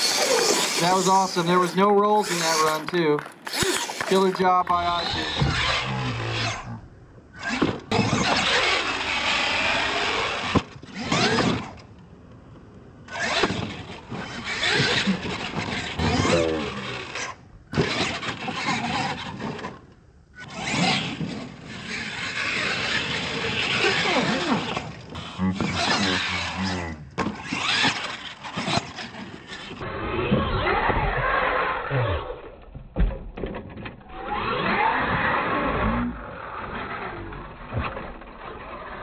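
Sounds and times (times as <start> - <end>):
toy truck motor whining: 0.0 - 11.8, 13.1 - 19.8, 20.4 - 32.6, 34.0 - 39.0
tyres on dirt: 0.0 - 39.0.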